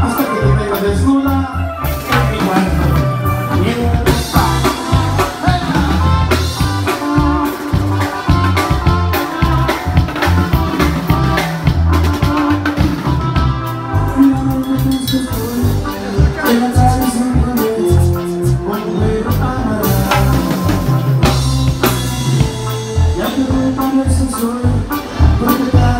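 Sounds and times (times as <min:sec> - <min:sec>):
bass guitar: 0:00.0 - 0:25.9
drums in a steady beat: 0:00.0 - 0:25.9
electric guitar: 0:00.0 - 0:25.9
keyboards: 0:00.0 - 0:25.9.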